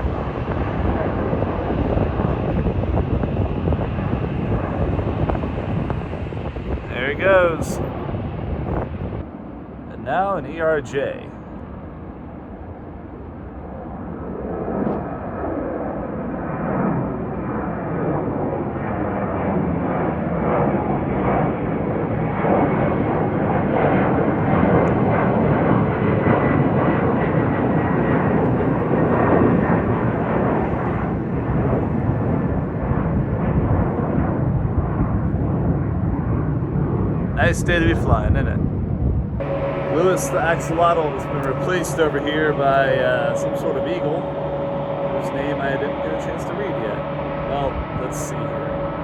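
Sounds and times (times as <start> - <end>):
jet engine roar: 0.0 - 49.0.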